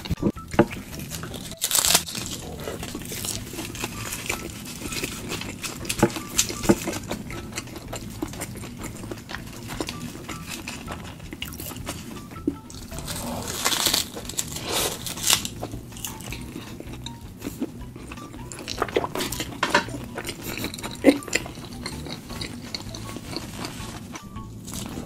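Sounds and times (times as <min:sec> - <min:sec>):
crunchy wet chewing: 0:00.0 - 0:25.0.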